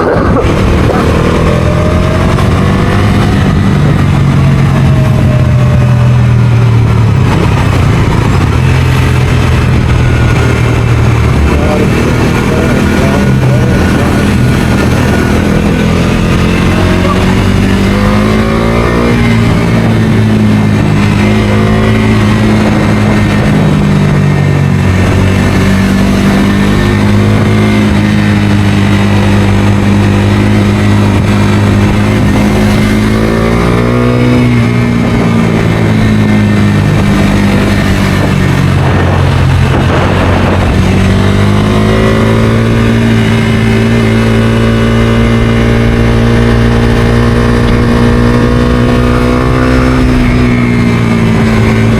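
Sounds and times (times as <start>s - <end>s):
motorcycle engine droning: 0.0s - 51.9s.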